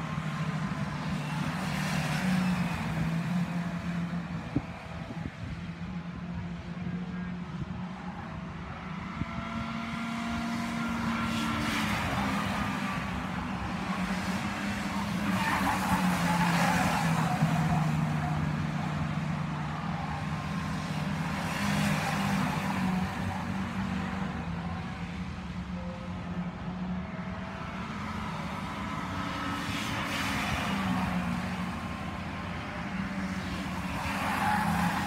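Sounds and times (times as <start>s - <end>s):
stock car engines racing: 0.0s - 35.0s.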